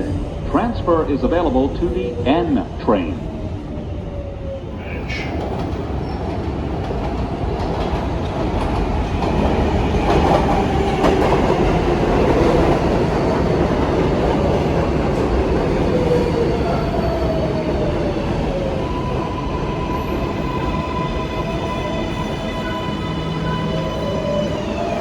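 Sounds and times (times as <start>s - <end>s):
subway wheels rumbling on track: 0.0s - 25.0s.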